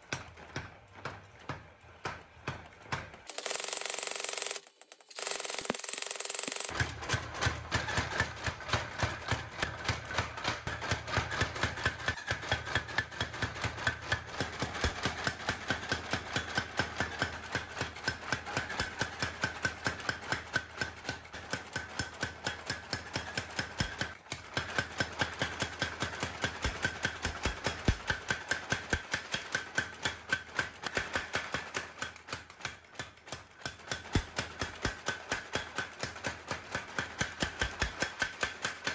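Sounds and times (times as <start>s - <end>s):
hammering on hot steel: 6.8s - 38.9s.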